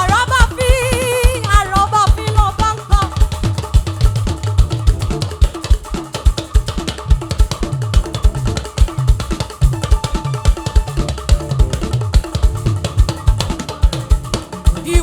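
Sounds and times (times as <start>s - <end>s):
drum kit beat: 0.0s - 15.0s
live band playing upbeat music: 0.0s - 15.0s.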